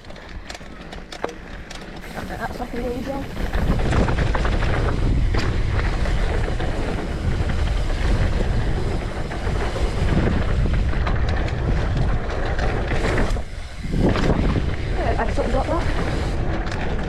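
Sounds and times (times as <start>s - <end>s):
bike clicks and rattles: 0.0s - 17.0s
tyre noise on dirt trail: 0.0s - 17.0s
wind rushing over microphone: 0.0s - 17.0s.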